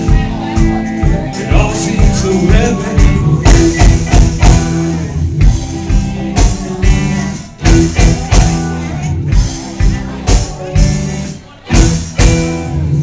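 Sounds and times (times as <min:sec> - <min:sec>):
bass guitar: 0:00.0 - 0:13.0
drum kit: 0:00.0 - 0:13.0
electric guitars: 0:00.0 - 0:13.0.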